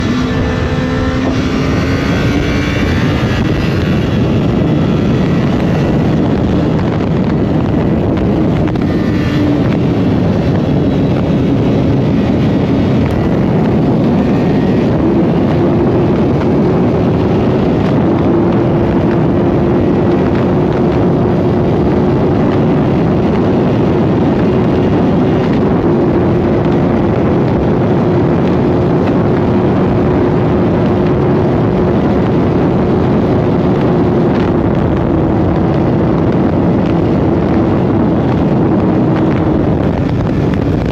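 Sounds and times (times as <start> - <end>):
sport bike engine running: 0.0 - 40.9
wind rush on microphone: 0.0 - 40.9.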